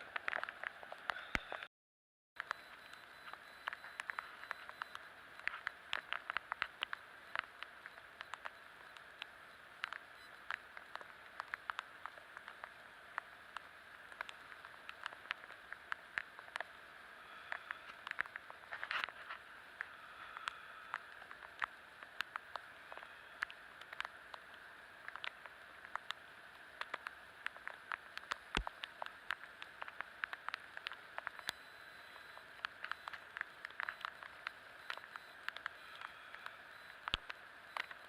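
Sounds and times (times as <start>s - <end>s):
raindrops tapping: 0.0s - 1.2s, 3.3s - 38.0s
rain falling: 0.0s - 1.6s, 3.1s - 38.0s.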